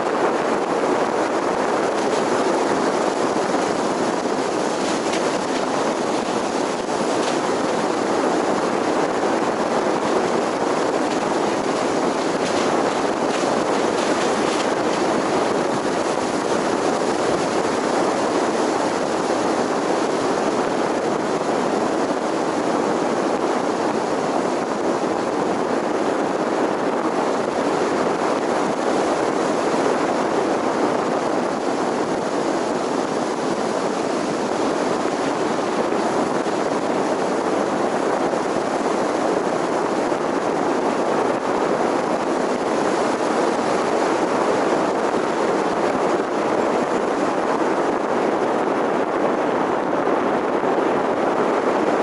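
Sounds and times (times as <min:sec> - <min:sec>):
car road and wind noise: 0:00.0 - 0:52.0.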